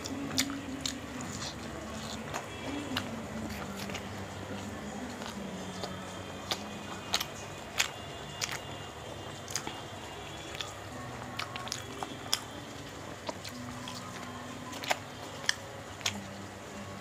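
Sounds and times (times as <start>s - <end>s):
chewing with wet clicks and smacks: 0.0s - 17.0s.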